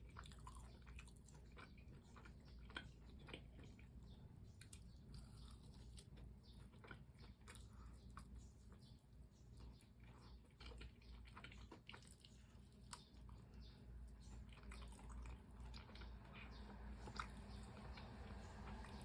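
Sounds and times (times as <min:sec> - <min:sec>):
chewing food: 0:00.0 - 0:19.0
low steady hum: 0:00.0 - 0:19.0.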